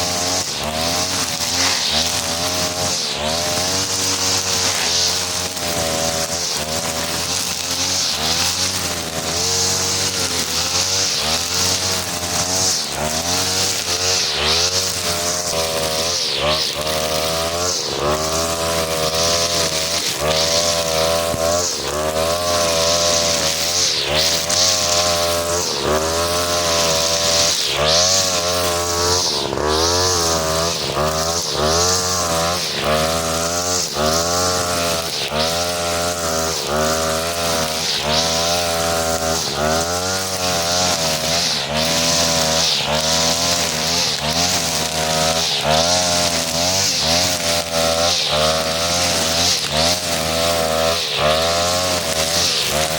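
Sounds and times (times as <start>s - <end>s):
brush cutter engine running: 0.0s - 52.9s
trimmer line swishing: 0.0s - 52.9s.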